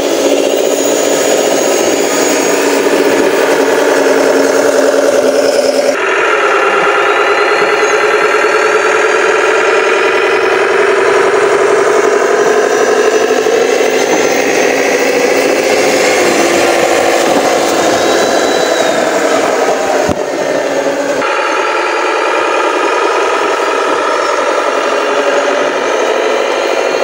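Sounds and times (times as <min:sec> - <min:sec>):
model truck motor drone: 0:00.0 - 0:27.0.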